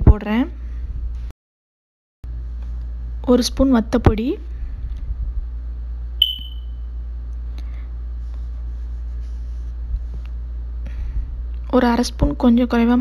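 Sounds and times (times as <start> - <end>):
low steady hum: 2.3 - 13.0.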